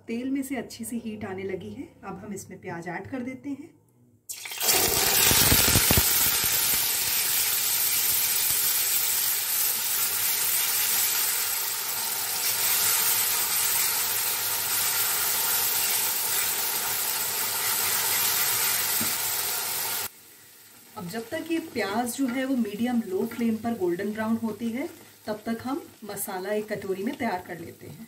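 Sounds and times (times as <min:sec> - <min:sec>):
onion paste sizzling in oil: 0:04.3 - 0:28.0.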